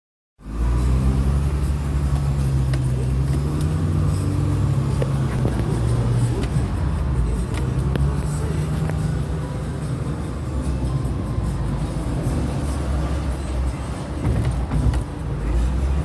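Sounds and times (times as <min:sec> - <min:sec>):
car engine idling: 0:00.8 - 0:16.0.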